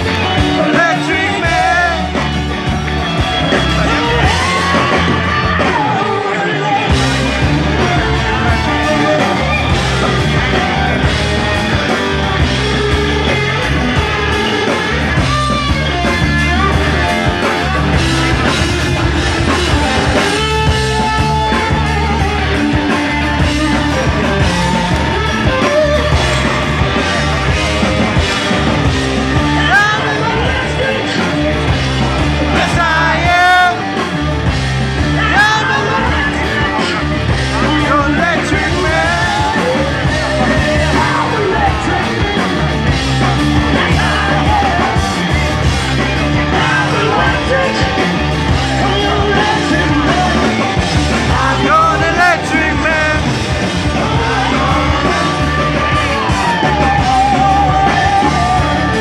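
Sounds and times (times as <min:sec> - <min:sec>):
distorted electric guitar: 0:00.0 - 0:59.0
hard rock band playing live: 0:00.0 - 0:59.0.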